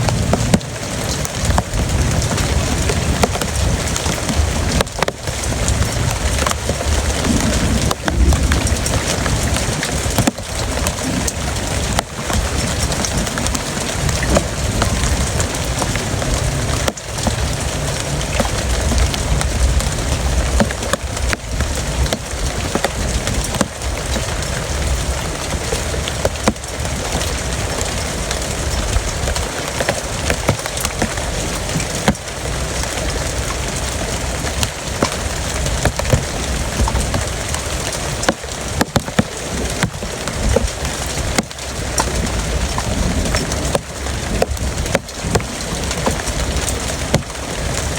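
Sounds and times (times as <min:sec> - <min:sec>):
heavy rain pouring: 0:00.0 - 0:47.9
sharp raindrop impacts: 0:00.0 - 0:47.9.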